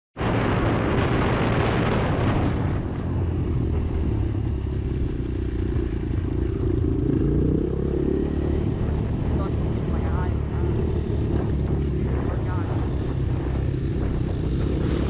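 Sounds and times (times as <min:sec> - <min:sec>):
wind rush on microphone: 0:00.2 - 0:15.0
motorcycle engine running: 0:02.8 - 0:15.0.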